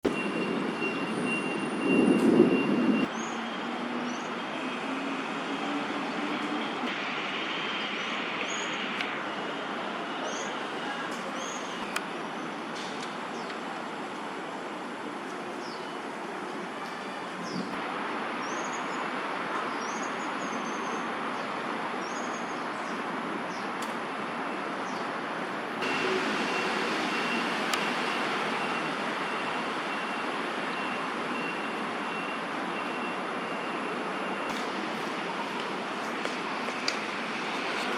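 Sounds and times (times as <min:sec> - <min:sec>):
heavy vehicle rumble: 0:00.0 - 0:18.3, 0:23.0 - 0:37.9
city traffic noise: 0:00.0 - 0:37.9.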